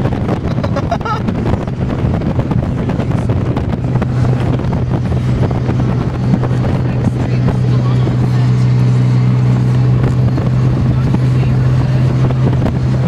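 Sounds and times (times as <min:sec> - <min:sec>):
road noise: 0:00.0 - 0:13.0
truck engine drone: 0:00.0 - 0:13.0
wind buffeting microphone: 0:00.0 - 0:13.0.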